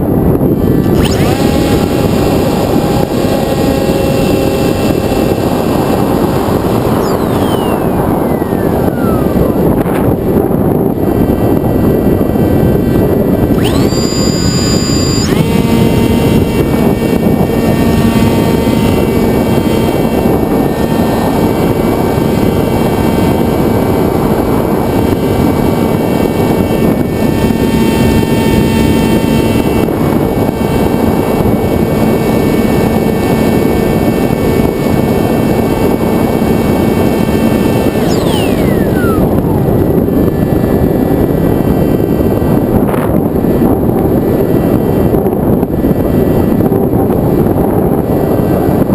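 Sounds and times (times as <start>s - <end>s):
electric motor and propeller whine: 0.0s - 48.9s
wind rush: 0.0s - 48.9s.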